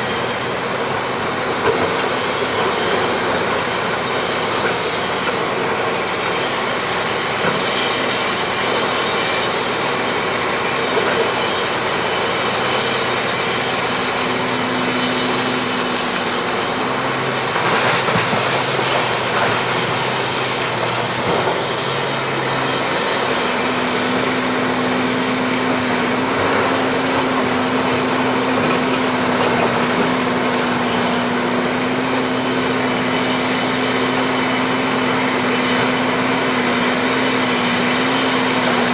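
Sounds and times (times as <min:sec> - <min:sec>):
hydraulic excavator working: 0:00.0 - 0:38.9.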